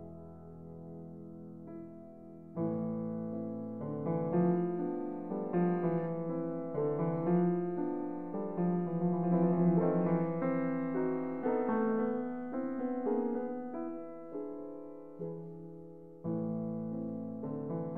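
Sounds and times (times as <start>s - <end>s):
piano music: 0.0s - 17.9s.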